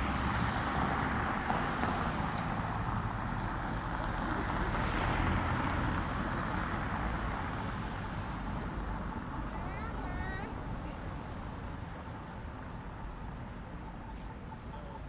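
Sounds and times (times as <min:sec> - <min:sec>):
cars going by: 0:00.0 - 0:15.0.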